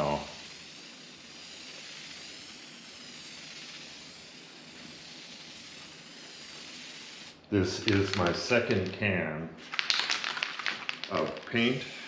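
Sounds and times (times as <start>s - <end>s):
aerosol spray can hissing: 0.0s - 8.8s, 10.8s - 12.0s.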